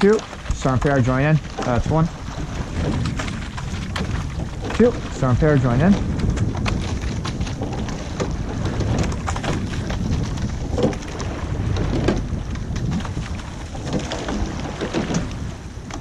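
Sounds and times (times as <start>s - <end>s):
oars clicking and knocking: 0.0s - 16.0s
water rushing along boat: 0.0s - 16.0s
wind on microphone: 0.0s - 16.0s.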